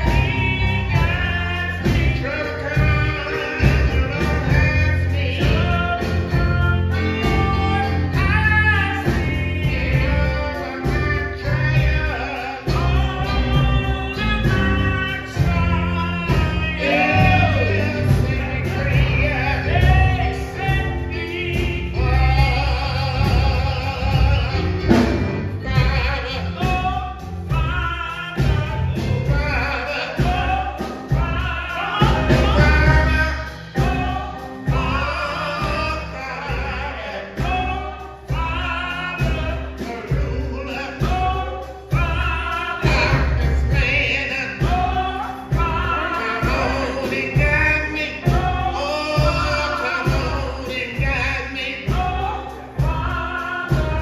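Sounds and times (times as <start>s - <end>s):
gospel singing with band: 0.0s - 54.0s.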